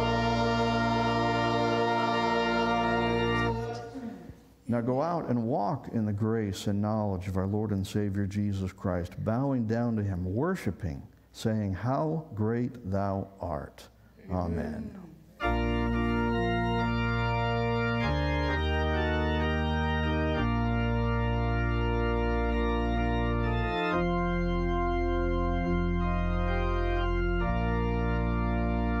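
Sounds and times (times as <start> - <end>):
organ sustained chords: 0.0 - 10.8, 15.4 - 29.0.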